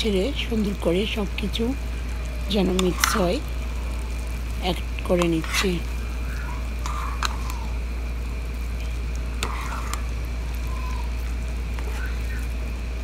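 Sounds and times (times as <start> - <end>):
food sizzling in pot: 0.0 - 13.0
low hum: 0.0 - 13.0.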